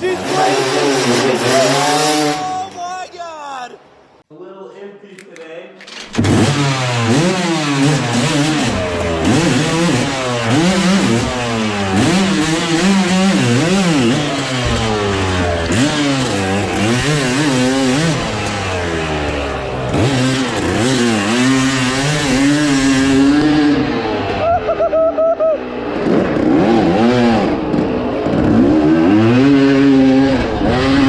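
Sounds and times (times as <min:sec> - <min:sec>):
dirt bike engine revving: 0:00.0 - 0:02.8, 0:05.9 - 0:31.0.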